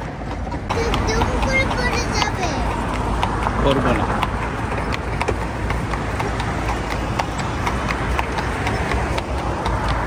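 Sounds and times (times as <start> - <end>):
horse hooves clip-clopping on asphalt: 0.0 - 10.0.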